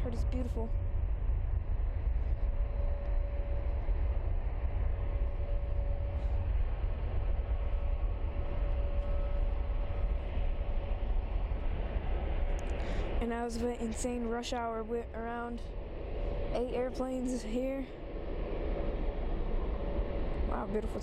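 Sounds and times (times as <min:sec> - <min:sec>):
jet engine whine: 0:00.0 - 0:21.0
jet engines rumbling: 0:00.0 - 0:21.0.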